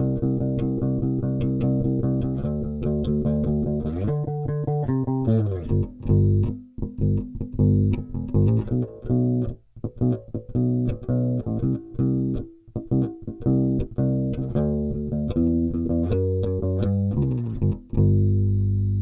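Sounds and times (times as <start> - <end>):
electric bass plucked notes: 0.0 - 19.0.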